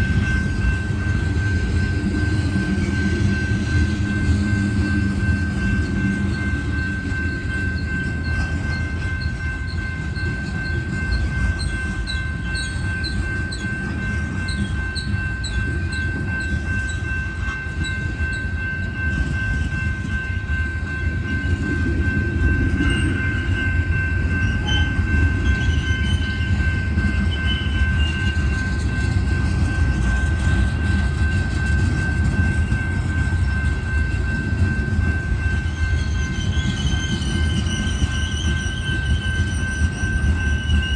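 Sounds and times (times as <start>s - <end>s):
freight cars rolling on rails: 0.0s - 40.9s.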